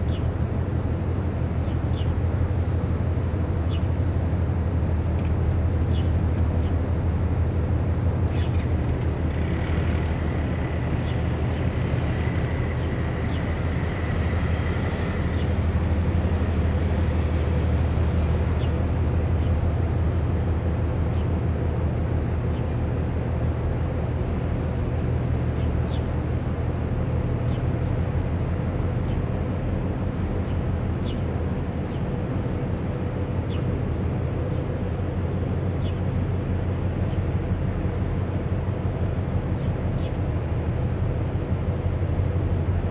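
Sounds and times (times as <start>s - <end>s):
ship engine drone: 0.0s - 42.9s.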